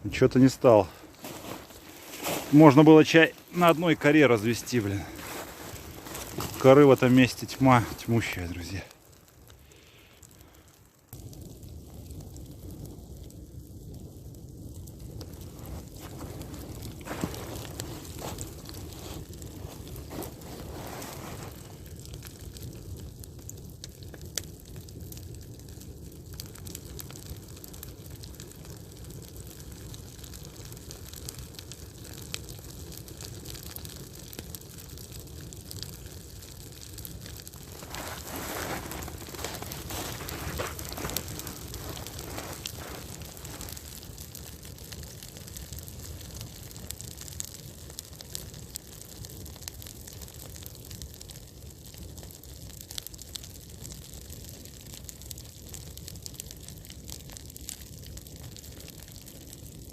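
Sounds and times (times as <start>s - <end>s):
campfire crackling and popping: 0.0s - 59.9s
fire hissing: 0.0s - 59.9s.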